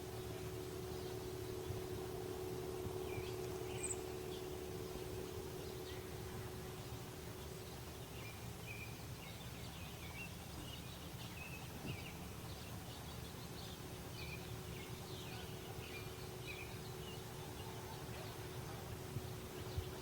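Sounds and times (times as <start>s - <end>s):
low rumble and faint hum: 0.0s - 20.0s
small birds chirping: 0.0s - 20.0s.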